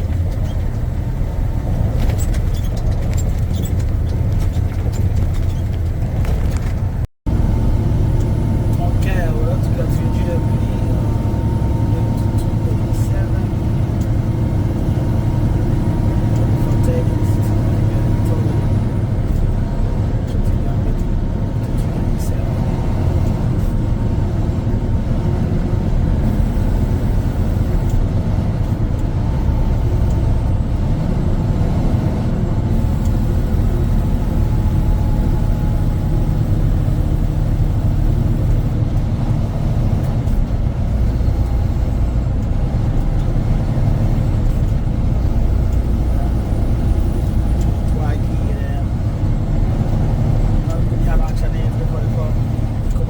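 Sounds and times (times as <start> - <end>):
truck engine and road noise: 0.0 - 53.0.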